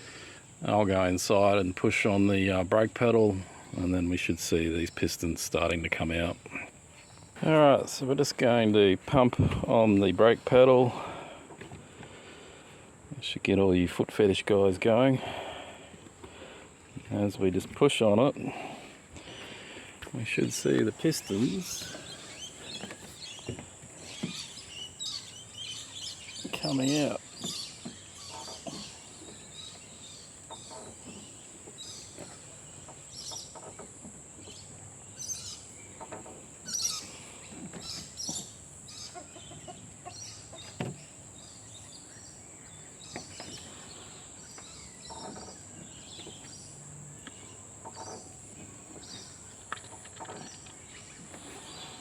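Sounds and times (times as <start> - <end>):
birds chirping: 0.0 - 52.0
steady high-pitched hiss: 0.0 - 52.0.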